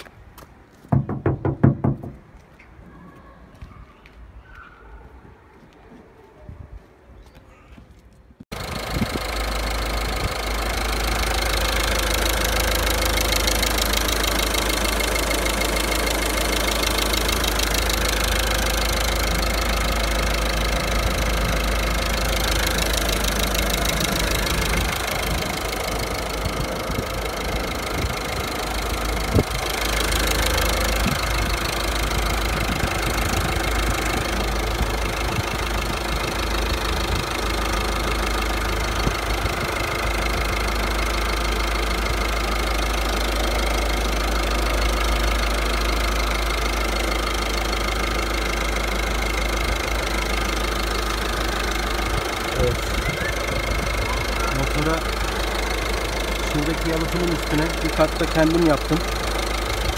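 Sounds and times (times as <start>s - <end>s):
car engine idling: 0.9s - 2.4s, 8.5s - 59.9s.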